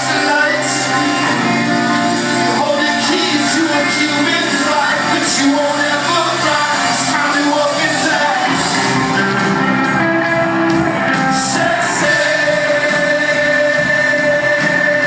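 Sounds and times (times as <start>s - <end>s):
live rock band with singing: 0.0s - 15.0s.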